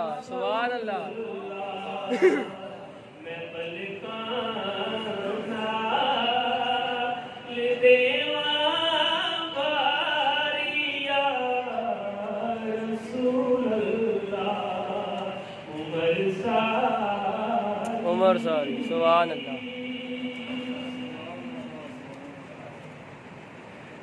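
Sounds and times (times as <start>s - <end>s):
elderly man singing devotional song: 0.0s - 21.8s.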